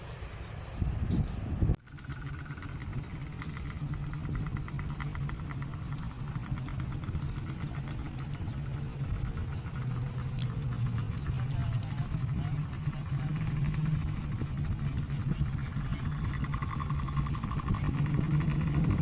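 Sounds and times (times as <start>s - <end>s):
helicopter running: 0.2s - 19.0s.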